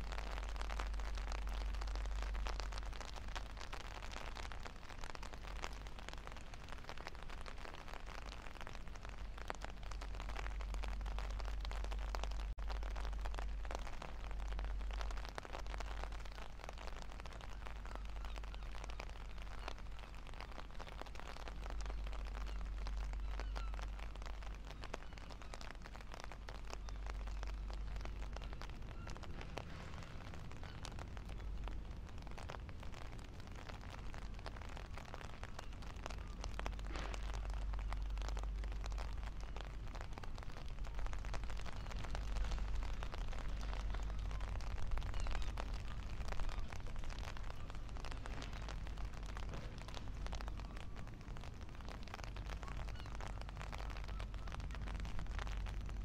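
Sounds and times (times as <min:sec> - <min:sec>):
rain patter: 0:00.0 - 0:56.0.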